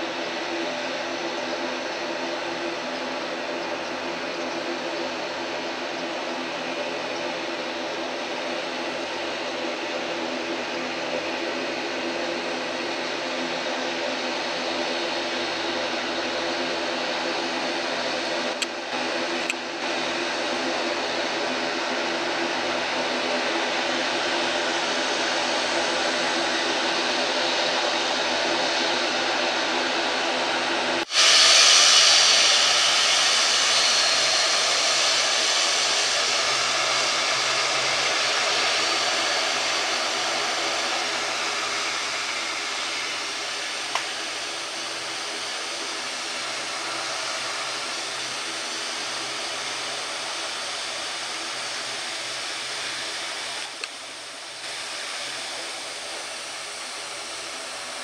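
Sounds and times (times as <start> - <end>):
propeller hum: 0.0 - 31.4, 32.0 - 58.0
turbine hiss: 0.1 - 58.0.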